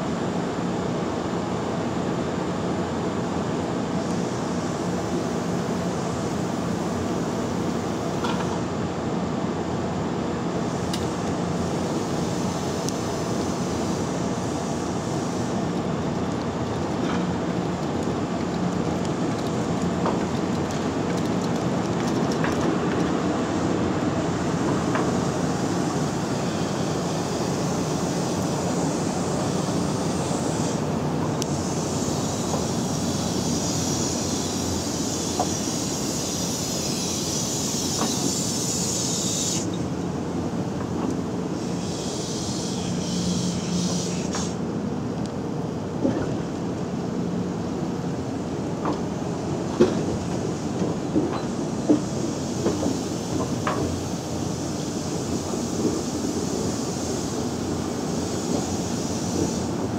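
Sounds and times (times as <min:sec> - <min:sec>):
train wheels rumbling: 0:10.7 - 0:59.9.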